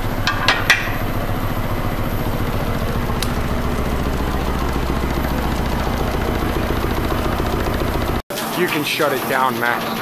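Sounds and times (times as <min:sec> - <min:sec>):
steam engine running: 0:00.0 - 0:10.0.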